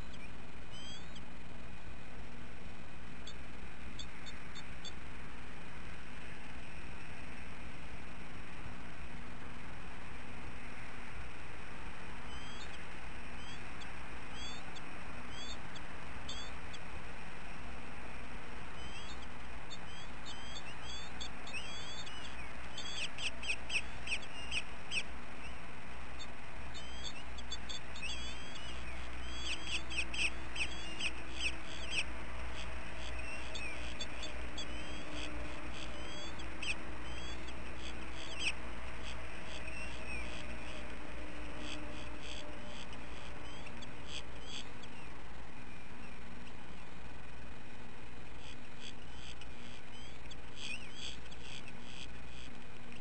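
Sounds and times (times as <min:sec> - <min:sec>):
birds chirping: 0:00.0 - 0:01.3, 0:03.2 - 0:07.4, 0:09.7 - 0:47.4, 0:48.3 - 0:52.6
rapid bird chirping: 0:00.0 - 0:01.7, 0:03.1 - 0:08.8, 0:10.2 - 0:53.0
low hum: 0:00.0 - 0:53.0.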